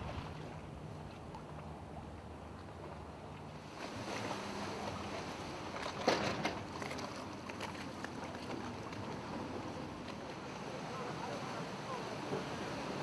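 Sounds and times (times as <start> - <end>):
water churning against hulls: 0.0 - 13.0.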